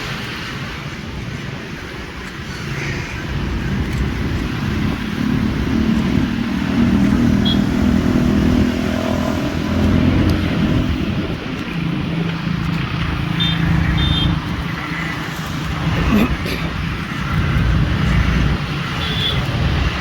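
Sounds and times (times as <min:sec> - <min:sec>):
traffic noise: 0:00.0 - 0:20.0
vehicles passing with engine hum: 0:00.0 - 0:20.0.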